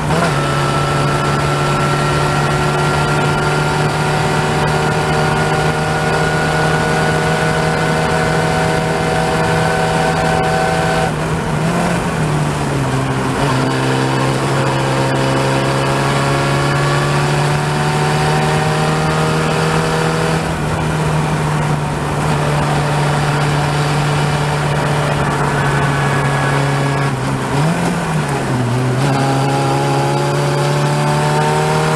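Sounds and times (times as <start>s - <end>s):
race car engine revving: 0.0s - 31.9s
wind and road noise: 0.0s - 31.9s.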